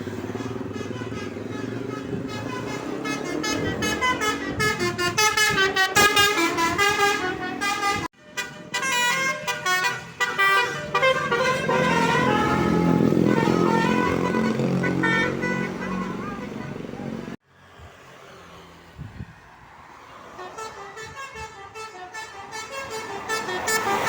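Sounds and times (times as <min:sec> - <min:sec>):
multi-tone bus horn tune: 0:00.0 - 0:17.4, 0:20.3 - 0:24.0.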